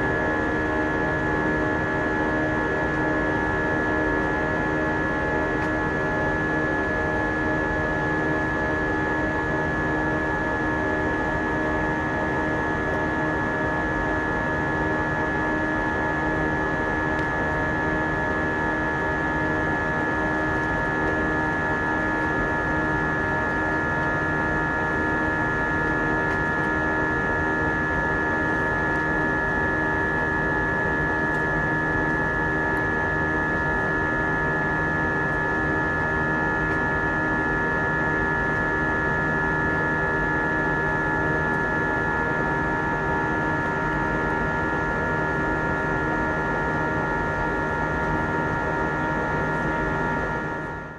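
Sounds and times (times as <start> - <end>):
jet engine cabin drone: 0.0 - 50.9.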